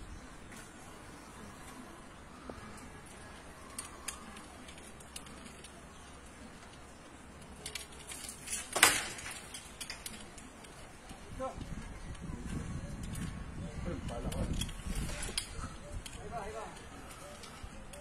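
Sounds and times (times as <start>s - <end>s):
climbing gear clinking on a trunk: 2.5s - 11.3s, 12.1s - 18.0s.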